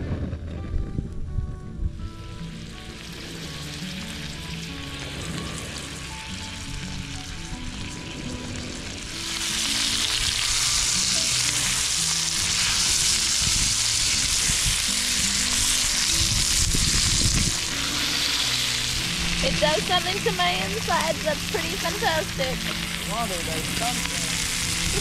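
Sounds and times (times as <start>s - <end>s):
fish sizzling in a skillet: 2.4s - 25.0s.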